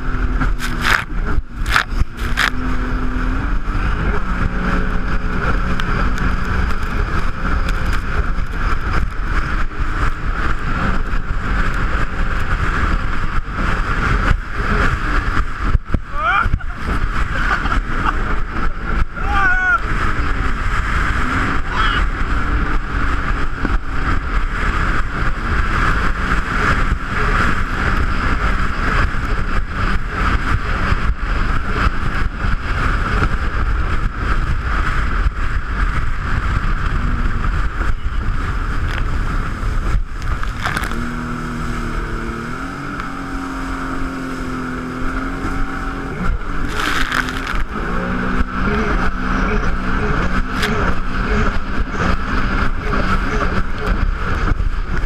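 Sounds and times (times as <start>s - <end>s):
jet ski engine running: 0.0s - 55.0s.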